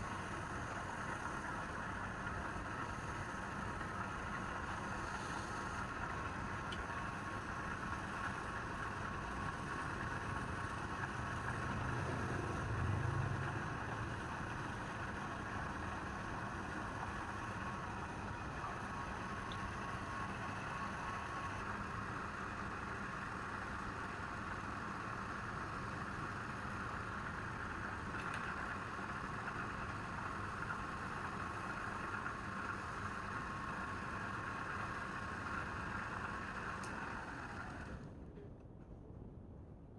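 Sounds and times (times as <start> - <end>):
machine whirring hum: 0.0 - 39.9.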